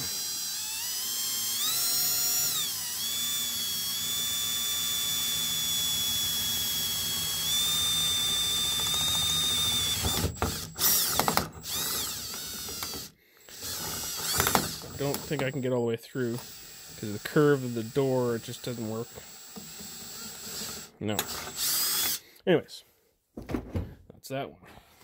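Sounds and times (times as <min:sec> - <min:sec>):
drill boring into steel: 0:00.0 - 0:22.2.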